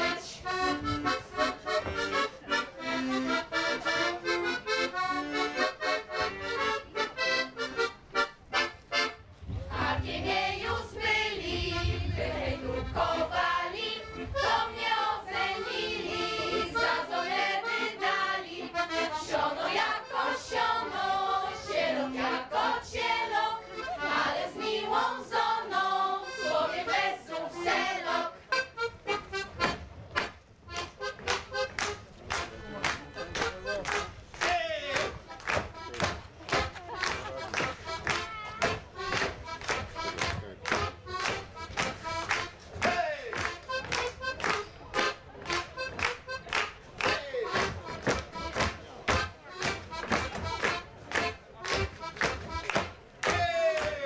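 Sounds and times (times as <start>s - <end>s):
instrumental folk music: 0.0s - 54.0s.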